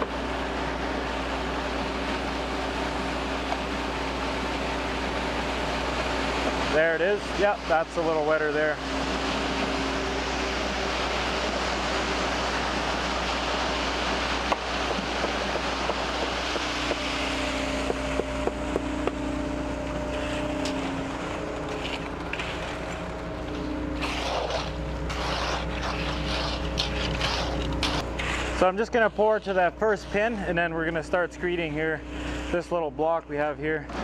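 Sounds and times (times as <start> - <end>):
truck engine hum: 0.0 - 28.3.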